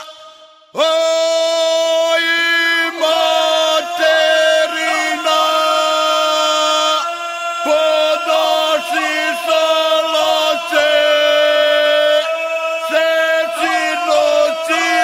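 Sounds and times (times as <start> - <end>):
unaccompanied group singing: 2.7 - 15.0.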